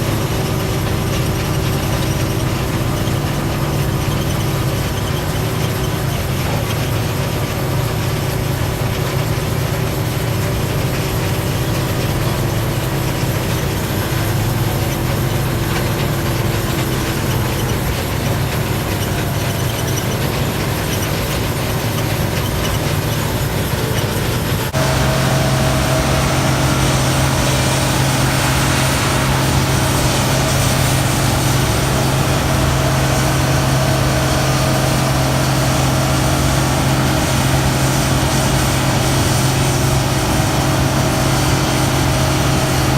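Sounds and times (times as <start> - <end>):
engine drone with whine: 0.0 - 42.9
machinery engine running: 0.0 - 42.9.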